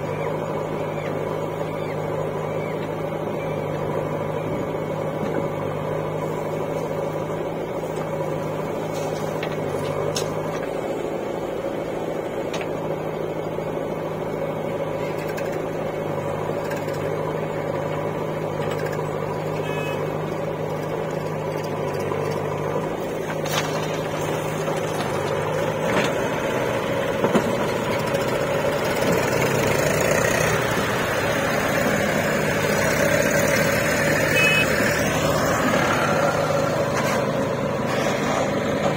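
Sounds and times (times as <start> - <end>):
diesel engines running: 0.0 - 38.9.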